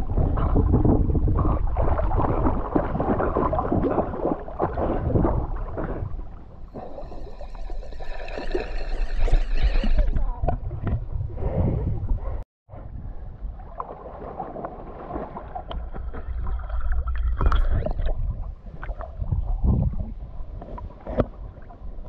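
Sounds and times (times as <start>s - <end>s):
water lapping and sloshing: 0.0s - 22.0s.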